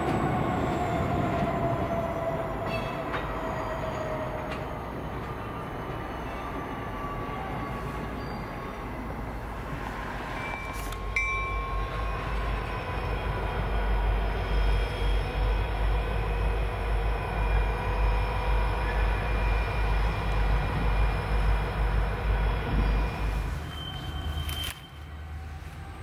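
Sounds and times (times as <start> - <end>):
diesel locomotive rumble: 0.0 - 26.0.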